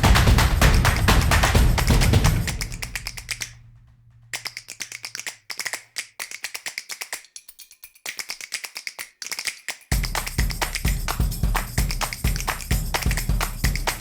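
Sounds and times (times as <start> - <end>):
rapid dry percussive clicks: 0.0 - 14.0.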